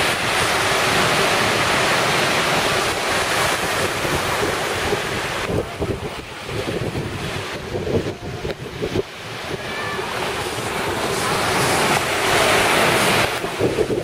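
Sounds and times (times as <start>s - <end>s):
surf breaking on sandy beach: 0.0s - 14.0s
wind buffeting microphone: 0.0s - 14.0s.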